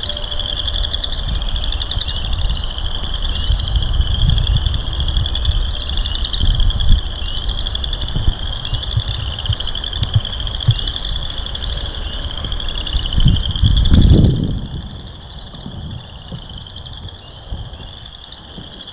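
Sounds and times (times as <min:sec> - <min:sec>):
frogs trilling: 0:00.0 - 0:18.9
wind rumbling on microphone: 0:00.0 - 0:18.9.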